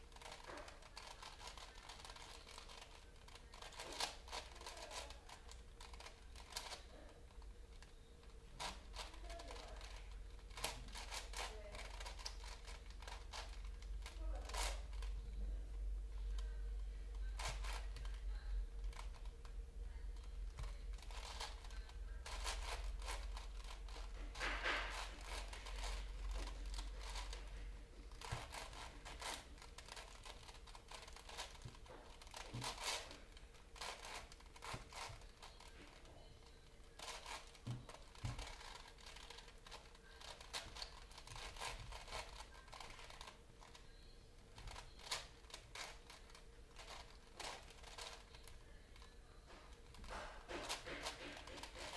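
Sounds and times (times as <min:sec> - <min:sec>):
crinkling and crumpling by hand: 0:00.0 - 0:51.9
faint steady hum: 0:00.0 - 0:51.9.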